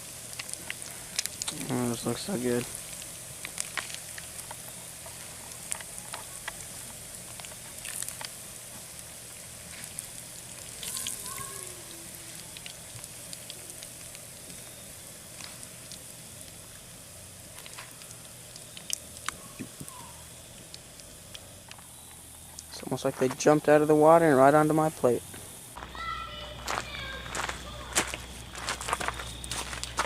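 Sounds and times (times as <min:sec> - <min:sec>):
fish frying in hot grease: 0:00.0 - 0:25.8.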